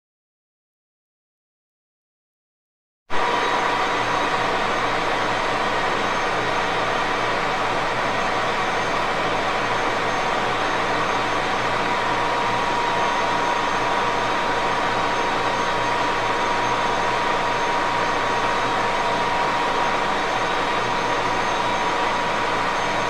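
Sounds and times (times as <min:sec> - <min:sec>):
lathe running with whine: 0:03.2 - 0:23.0.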